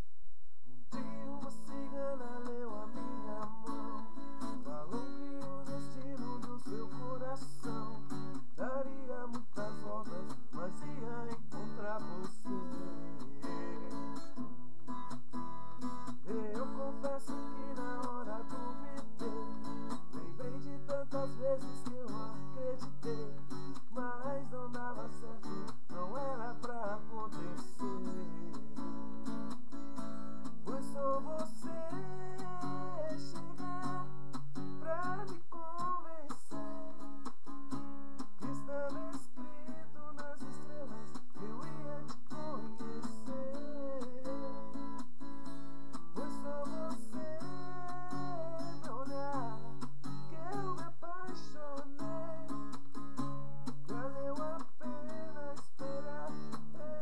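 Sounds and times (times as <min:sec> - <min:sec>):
man singing: 0:00.9 - 0:14.7, 0:16.1 - 0:29.3, 0:30.5 - 0:37.2, 0:38.3 - 0:45.1, 0:46.0 - 0:52.8, 0:53.7 - 0:57.0
acoustic guitar strumming: 0:00.9 - 0:57.0.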